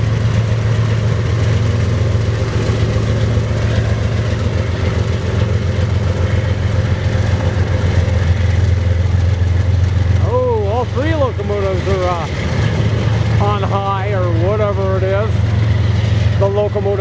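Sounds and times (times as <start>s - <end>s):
diesel locomotives passing: 0.0s - 17.0s.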